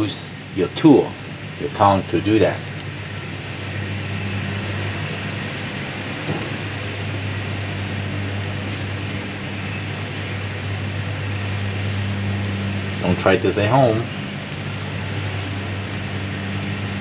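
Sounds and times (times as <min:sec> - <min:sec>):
gas burner hiss: 0:00.0 - 0:17.0
sausages sizzling on a grill: 0:00.0 - 0:17.0.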